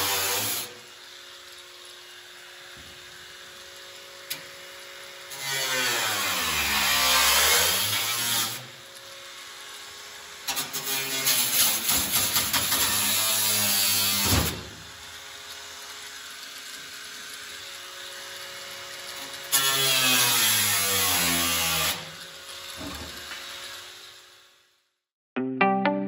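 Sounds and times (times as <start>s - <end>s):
angle grinder cutting steel: 0.0s - 24.7s.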